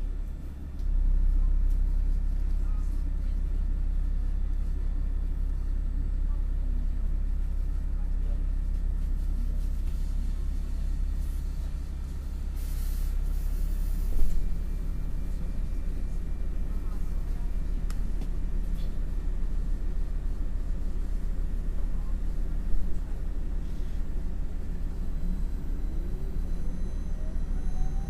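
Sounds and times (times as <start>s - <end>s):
bus engine droning: 0.0s - 28.0s.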